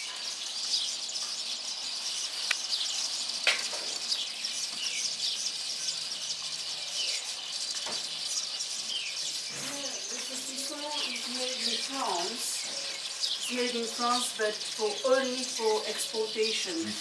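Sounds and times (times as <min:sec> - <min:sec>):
weaver birds chattering: 0:00.0 - 0:17.0.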